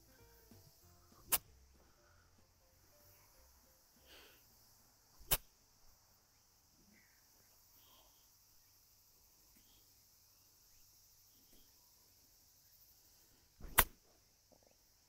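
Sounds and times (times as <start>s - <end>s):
quiet outdoor ambience: 0.0s - 15.0s.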